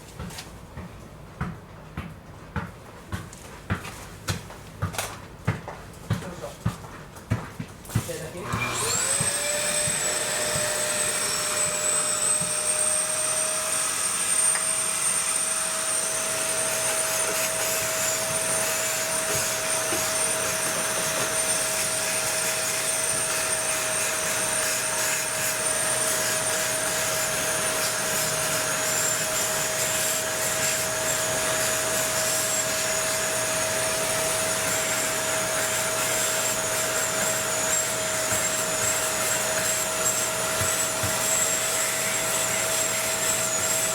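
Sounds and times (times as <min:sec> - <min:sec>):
vacuum cleaner motor whine: 0:08.3 - 0:43.9.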